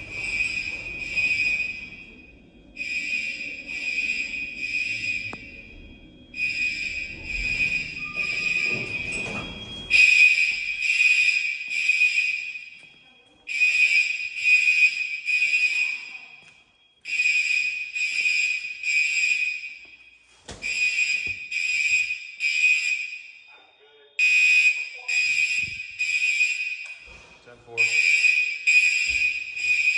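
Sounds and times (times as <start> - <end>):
fire alarm horn blasts: 0.0 - 29.9.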